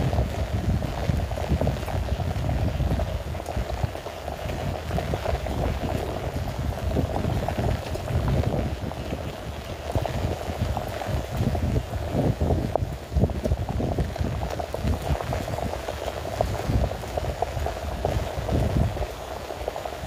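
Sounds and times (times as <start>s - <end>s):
footsteps on wet path: 0.0s - 20.0s
heavy rain on grass: 0.0s - 20.0s.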